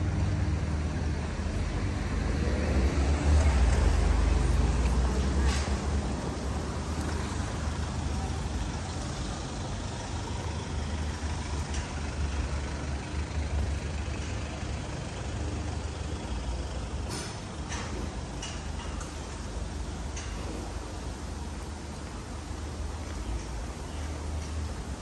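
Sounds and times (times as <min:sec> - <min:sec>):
heavy vehicle engine rumbling: 0:00.0 - 0:25.0
street traffic: 0:00.0 - 0:25.0.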